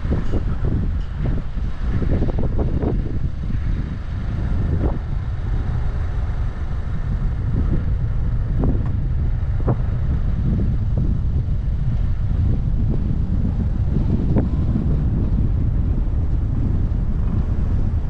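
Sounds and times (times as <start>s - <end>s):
road and engine rumble: 0.0s - 18.0s
wind buffeting camera: 0.0s - 18.0s.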